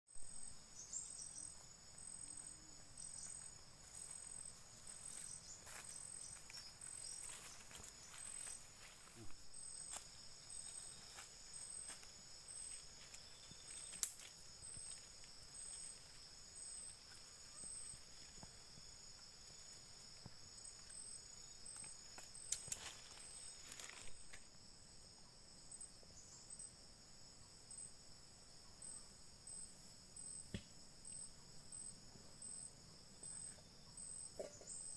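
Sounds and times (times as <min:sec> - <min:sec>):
insect high-pitched trill: 0:00.1 - 0:34.9
insect pulsing call: 0:00.2 - 0:34.9.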